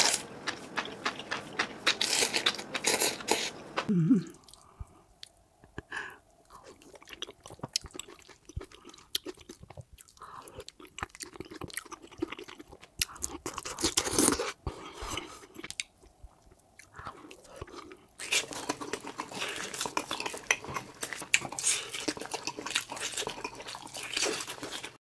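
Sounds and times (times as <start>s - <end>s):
wet chewing and smacking: 0.0s - 4.6s, 6.5s - 25.0s.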